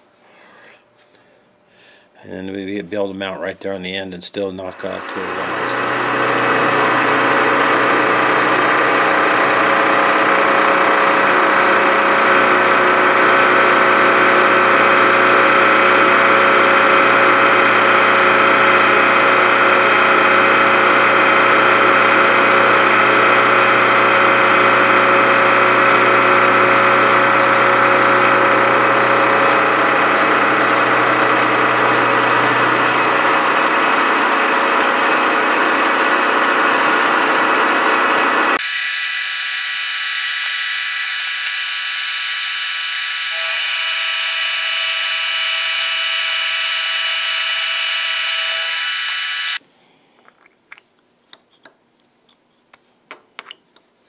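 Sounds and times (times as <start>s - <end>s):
milling machine cutting metal: 4.7s - 49.6s.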